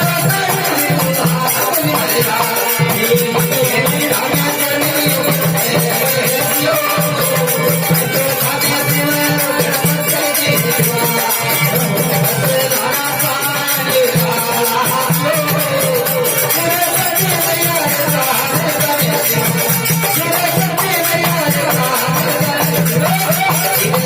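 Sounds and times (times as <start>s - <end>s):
small percussion: 0.0s - 24.0s.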